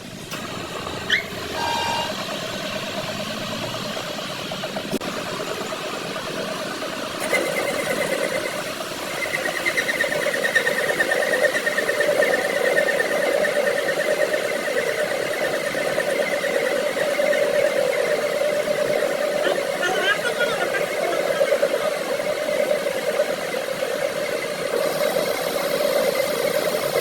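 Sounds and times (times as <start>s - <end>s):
machine humming with whine: 0.0s - 27.0s.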